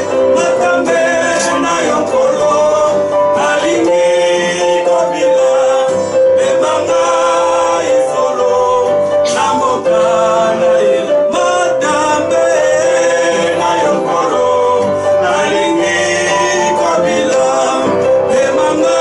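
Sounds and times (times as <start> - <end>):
acoustic guitar strumming: 0.0 - 19.0
man singing long held notes: 0.0 - 19.0.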